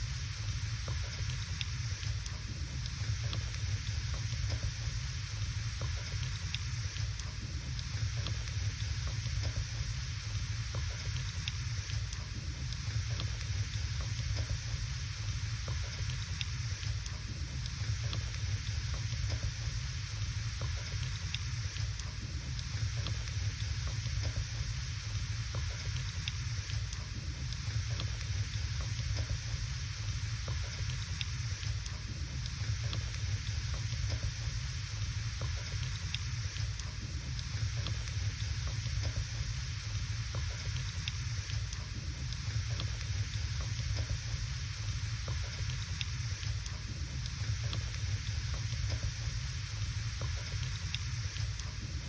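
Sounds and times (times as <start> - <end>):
fire low rumble and hiss: 0.0 - 52.0
wood fire crackling and popping: 0.4 - 52.0.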